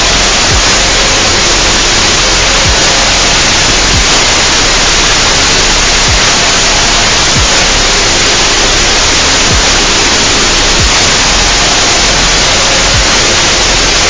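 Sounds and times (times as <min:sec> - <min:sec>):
synthesized static hiss: 0:00.0 - 0:14.0.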